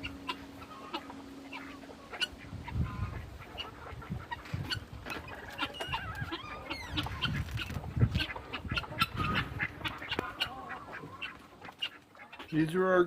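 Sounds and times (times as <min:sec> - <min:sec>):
poultry honking and clucking: 0:00.0 - 0:13.0.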